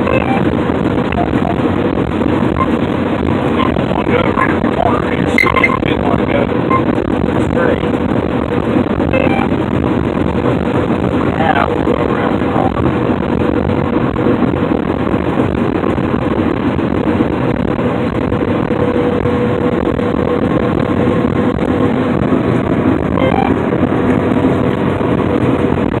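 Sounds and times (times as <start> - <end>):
combine harvester machinery drone: 0.0 - 26.0
constant hum: 0.0 - 26.0.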